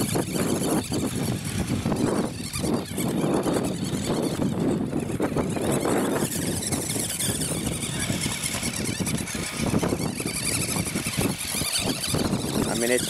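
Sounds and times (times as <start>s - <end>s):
toy truck motor whining: 0.0s - 13.0s.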